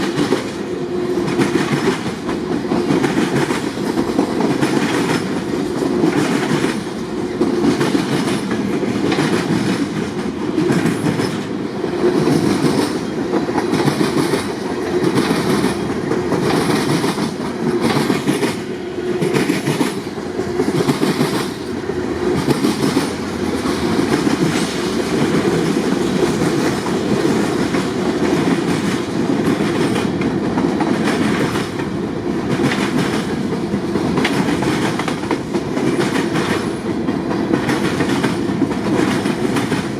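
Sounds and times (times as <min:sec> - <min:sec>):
freight train cars rolling past: 0:00.0 - 0:39.9
steel wheels clacking over rail joints: 0:00.0 - 0:39.9.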